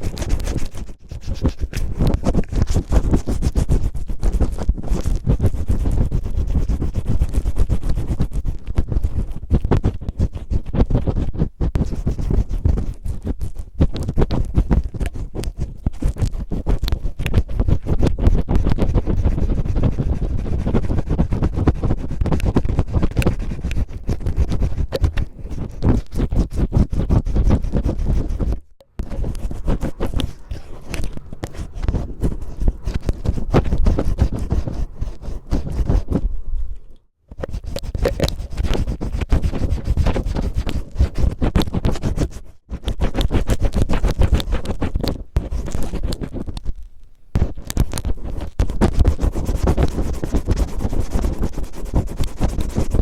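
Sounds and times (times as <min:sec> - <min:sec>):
cellophane crinkling and scratching: 0:00.0 - 0:36.3, 0:37.3 - 0:53.0.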